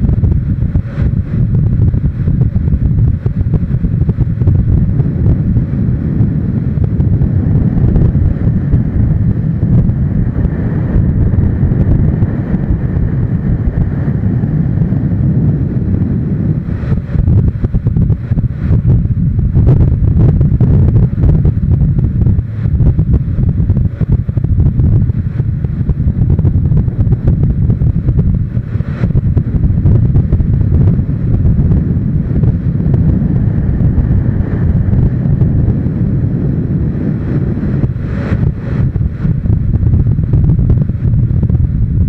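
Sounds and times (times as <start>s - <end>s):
motorcycle engine running: 0.0s - 42.0s
wind buffeting microphone: 0.0s - 42.0s.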